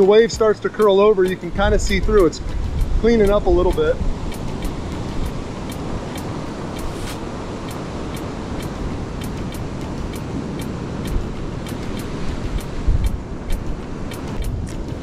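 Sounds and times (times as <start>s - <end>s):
ocean surf breaking: 0.0s - 15.0s
wind rumbling on microphone: 0.0s - 15.0s.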